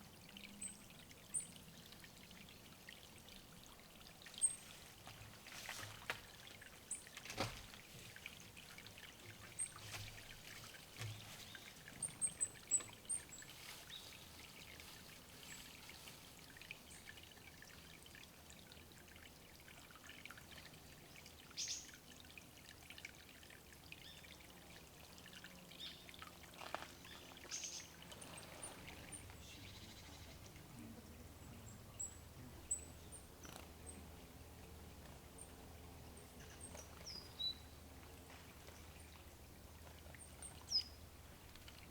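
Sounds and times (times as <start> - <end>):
faint water sounds: 0.0 - 41.9.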